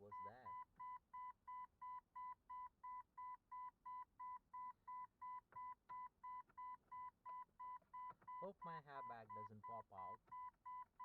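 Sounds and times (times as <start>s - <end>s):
short electronic warning beeps: 0.0s - 10.9s.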